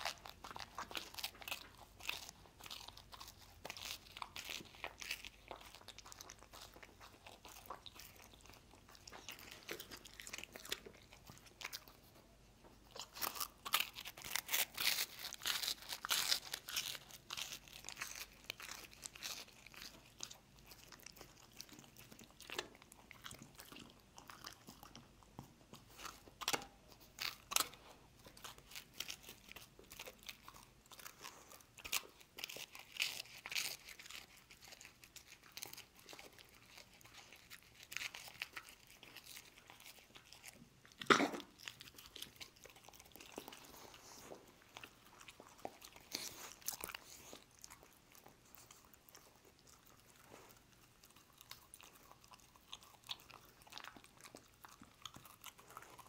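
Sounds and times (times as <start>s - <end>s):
dog crunching and chewing toast: 0.0s - 56.0s.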